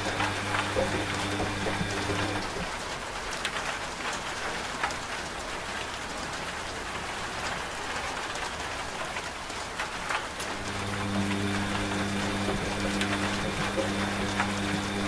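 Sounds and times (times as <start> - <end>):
rain drops striking a surface: 0.0 - 15.0.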